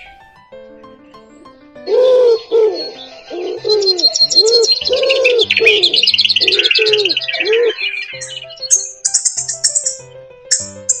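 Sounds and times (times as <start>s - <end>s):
high bird chirping and twittering: 0.9s - 11.0s
low arched bird call: 0.9s - 11.0s.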